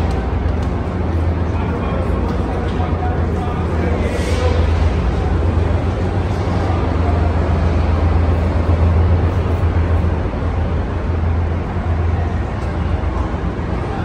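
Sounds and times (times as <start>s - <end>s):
wash of noise: 0.0s - 14.0s.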